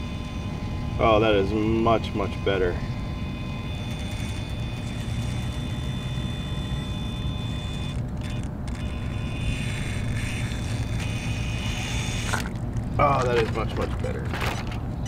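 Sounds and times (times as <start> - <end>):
electric motor high whine: 0.0 - 12.6.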